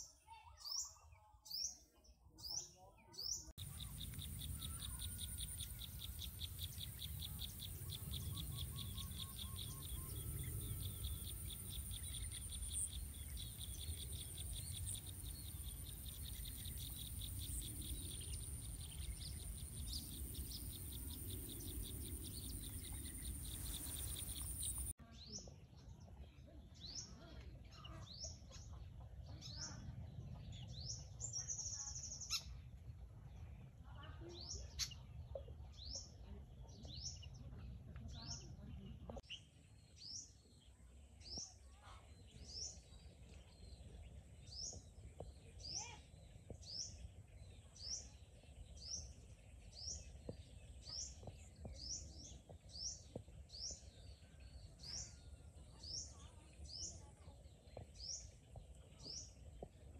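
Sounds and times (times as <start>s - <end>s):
bird chirping: 0.0s - 25.5s, 33.6s - 59.9s.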